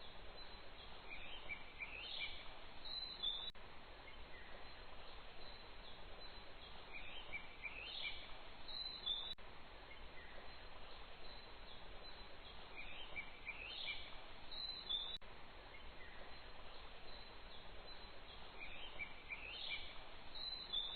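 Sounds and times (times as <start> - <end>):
birds chirping: 0.0 - 20.9
outdoor ambience hiss: 0.0 - 20.9.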